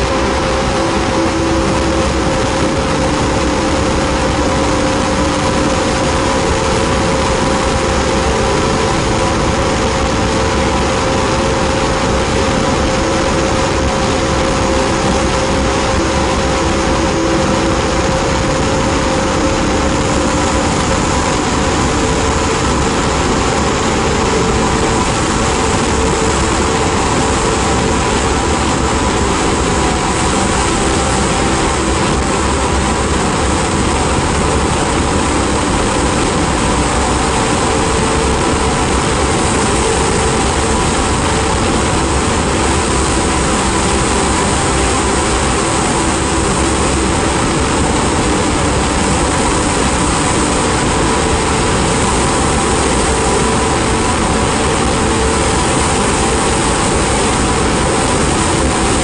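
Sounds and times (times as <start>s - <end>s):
ambient drone music: 0.0s - 59.0s.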